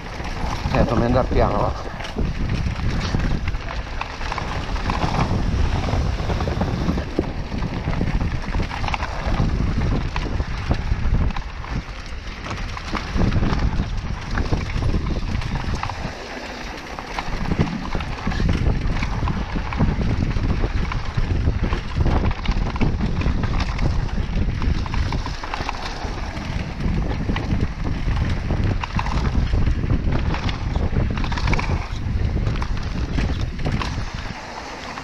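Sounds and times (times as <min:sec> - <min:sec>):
bike rattling over bumps: 0:00.0 - 0:35.0
bike tyres on dirt: 0:00.0 - 0:35.0
wind on microphone: 0:00.0 - 0:35.0.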